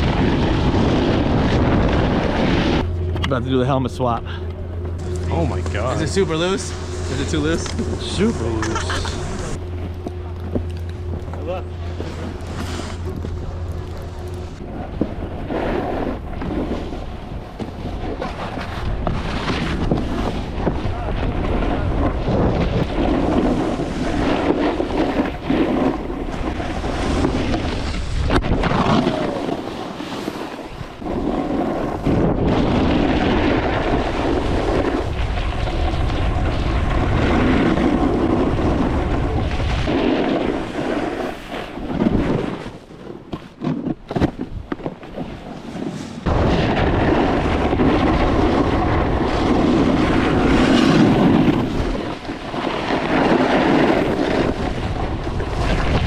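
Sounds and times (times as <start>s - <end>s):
snowboard scraping icy snow: 0.0s - 2.9s, 5.3s - 9.6s, 12.0s - 13.3s, 14.4s - 20.7s, 21.4s - 56.0s
wind rushing over microphone: 0.0s - 10.0s, 11.0s - 43.3s, 44.0s - 56.0s.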